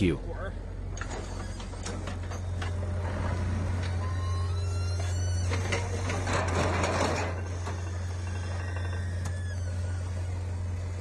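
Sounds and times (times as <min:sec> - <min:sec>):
heavy machinery humming: 0:00.0 - 0:11.0.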